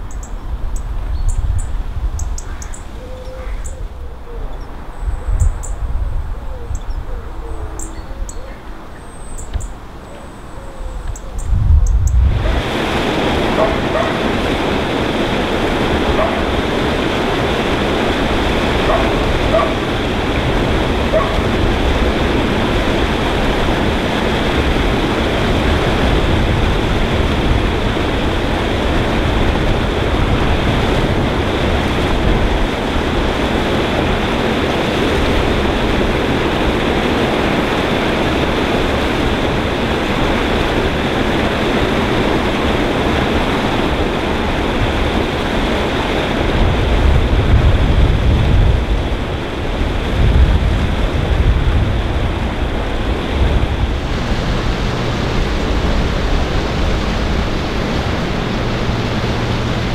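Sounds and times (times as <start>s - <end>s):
water rushing over weir: 0.0s - 59.9s.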